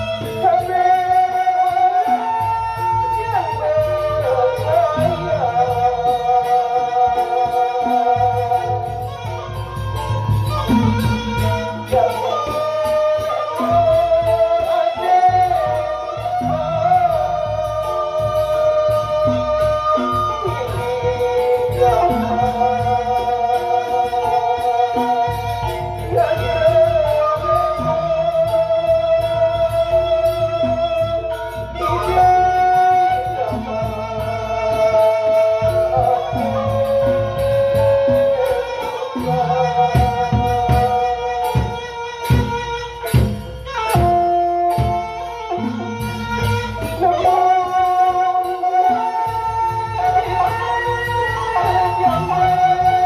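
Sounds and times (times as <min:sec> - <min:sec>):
man singing into microphone: 0:00.0 - 0:43.1, 0:44.0 - 0:53.0
bamboo flute: 0:00.0 - 0:53.0.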